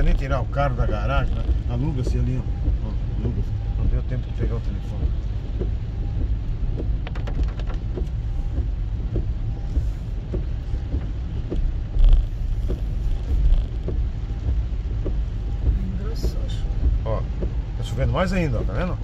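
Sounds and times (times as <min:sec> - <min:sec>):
car driving on wet road: 0:00.0 - 0:19.0
windscreen wipers: 0:00.0 - 0:19.0.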